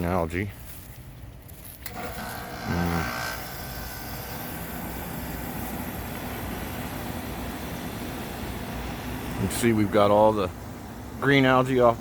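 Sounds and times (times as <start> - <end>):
steady mechanical rumble: 0.0 - 12.0.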